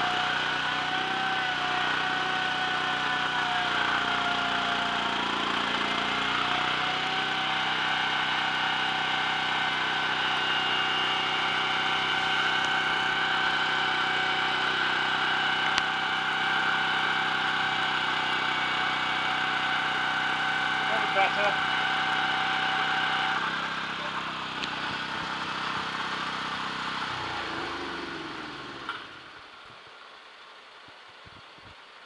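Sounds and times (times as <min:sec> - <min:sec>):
small petrol engine running: 0:00.0 - 0:29.4
spinning wheel whine: 0:00.0 - 0:29.5.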